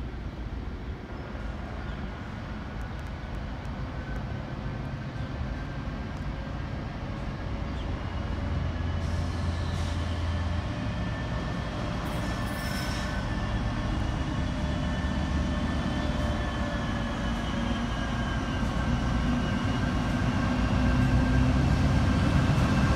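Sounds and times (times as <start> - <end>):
diesel locomotive engine rumble: 0.0 - 22.9.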